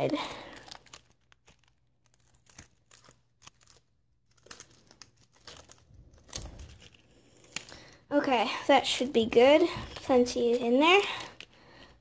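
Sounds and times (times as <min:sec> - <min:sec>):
balloon rubbery rustling: 0:00.0 - 0:12.0.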